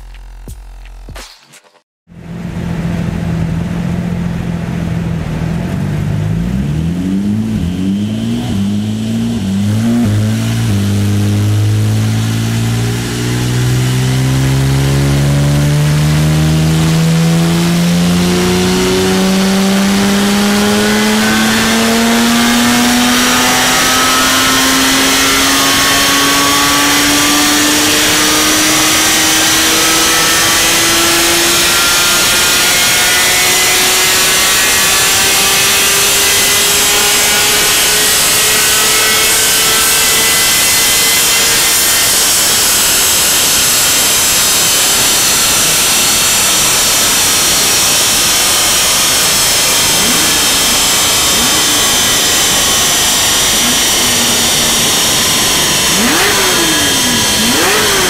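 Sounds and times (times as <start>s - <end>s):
sports car engine revving: 2.2s - 58.0s.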